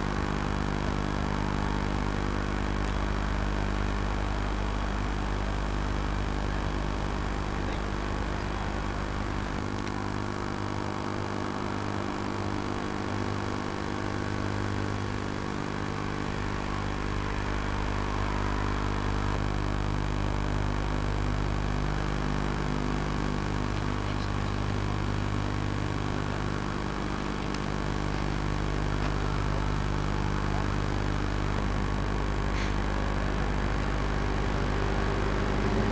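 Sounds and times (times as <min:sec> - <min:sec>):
excavator diesel engines running: 0:00.0 - 0:35.9.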